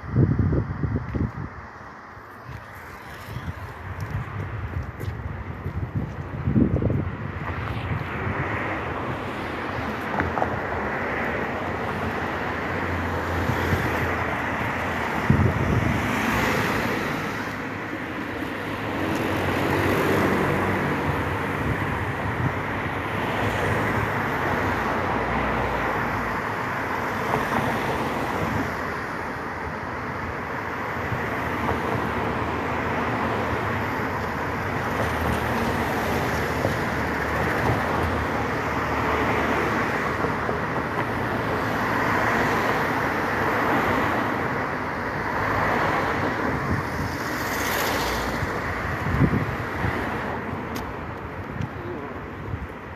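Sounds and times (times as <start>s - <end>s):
road traffic passing: 0.0s - 52.9s.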